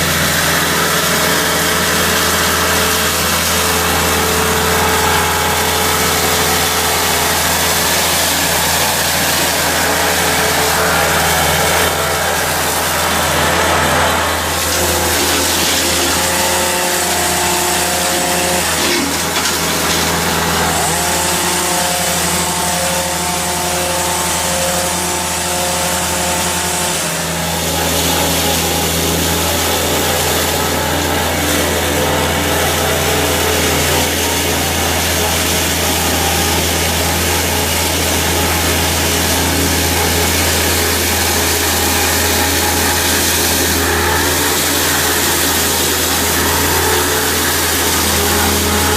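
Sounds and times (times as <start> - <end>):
heavy engine running: 0.0 - 48.9
sawing noise: 0.0 - 48.9.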